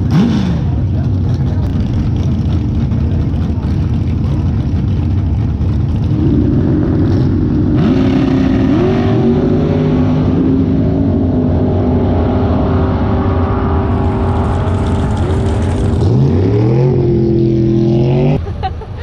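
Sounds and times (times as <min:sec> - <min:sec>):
race car engine at high revs: 0:00.0 - 0:18.4.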